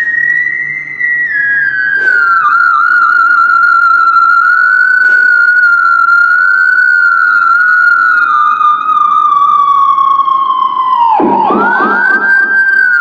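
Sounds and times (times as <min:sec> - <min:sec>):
theremin high tone: 0:00.0 - 0:13.0.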